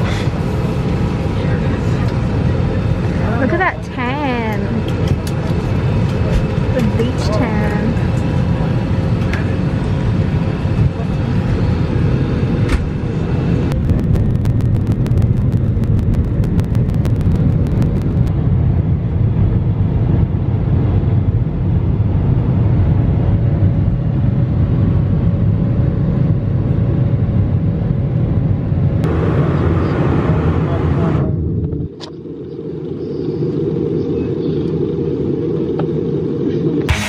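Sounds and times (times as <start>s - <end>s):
aircraft cabin engine rumble: 0.0s - 37.0s.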